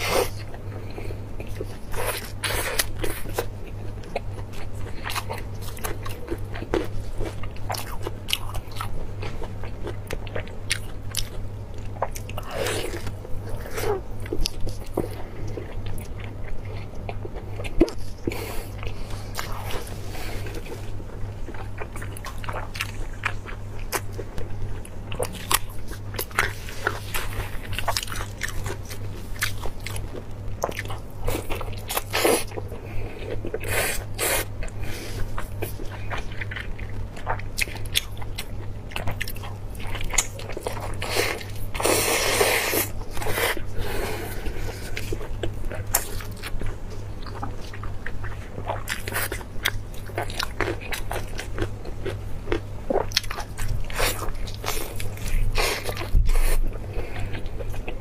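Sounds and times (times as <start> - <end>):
low electrical hum: 0.0 - 58.0
wet chewing of sticky meat: 0.0 - 58.0.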